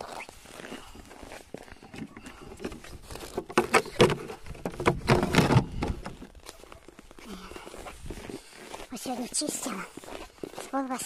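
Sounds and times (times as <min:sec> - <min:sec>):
footsteps crunching through snow: 0:00.0 - 0:11.0.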